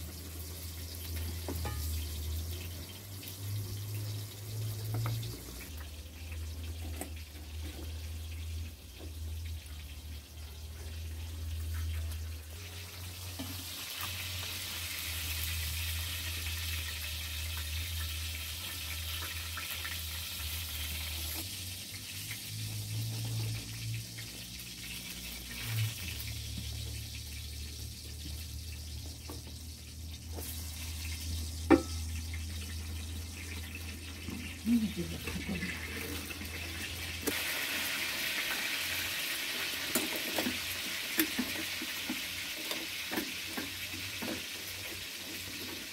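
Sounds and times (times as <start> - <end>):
food sizzling in oil: 0.0 - 45.9.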